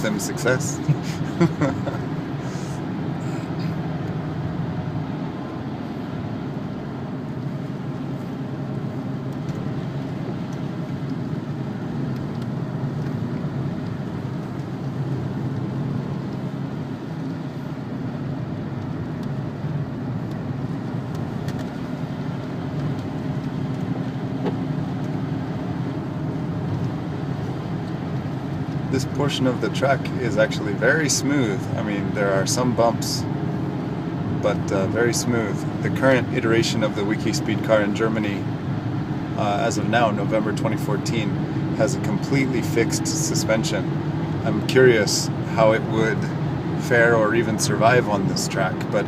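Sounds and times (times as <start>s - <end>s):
diesel engine drone: 0.0s - 49.0s
tyre and road noise on wet road: 0.0s - 49.0s.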